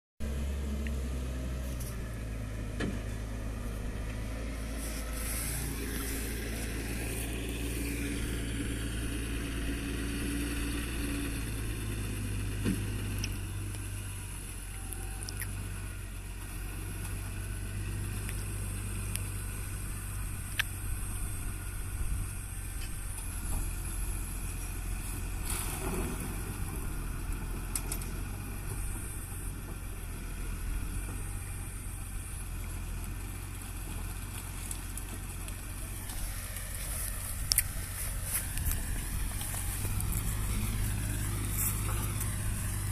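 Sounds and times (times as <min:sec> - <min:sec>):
tractor diesel engine running: 0:00.2 - 0:42.9.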